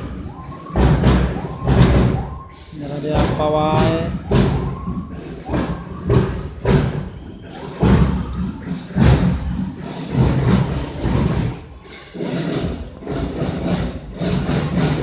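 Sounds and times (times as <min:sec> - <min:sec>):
marching band bass drums: 0:00.0 - 0:15.0.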